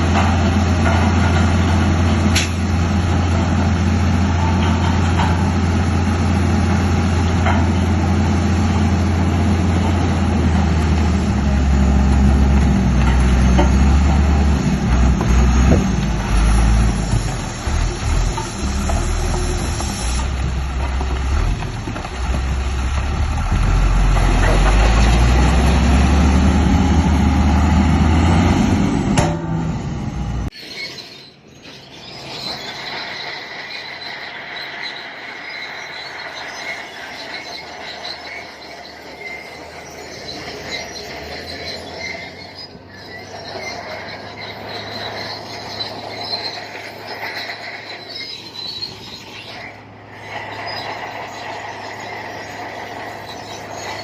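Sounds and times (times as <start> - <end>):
bulldozer diesel engine: 0.0 - 54.0
crawler tracks squealing: 0.0 - 54.0.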